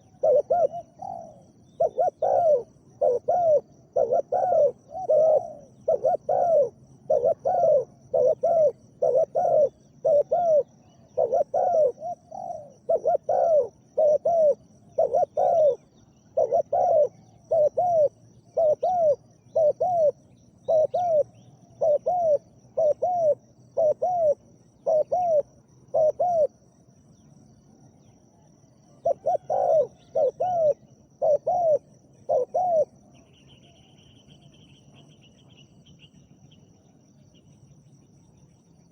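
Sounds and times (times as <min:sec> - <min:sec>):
dove cooing: 0:00.0 - 0:26.7, 0:28.3 - 0:33.8
faint high insect trill: 0:00.0 - 0:38.9.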